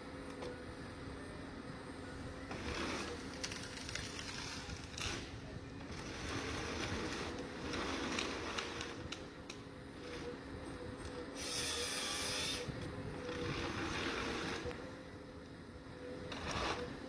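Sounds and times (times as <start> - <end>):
heavy machine engine hum: 0.0 - 17.0.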